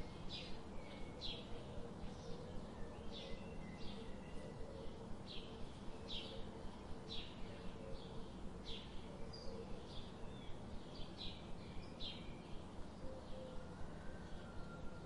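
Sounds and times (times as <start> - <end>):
small birds chirping: 0.0 - 13.6
steady background noise: 0.0 - 15.0.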